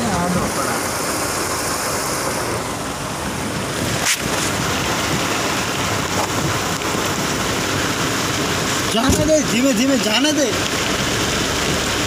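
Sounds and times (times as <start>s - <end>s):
heavy rain on vehicle: 0.0s - 12.0s
vehicle road and engine noise: 0.0s - 12.0s.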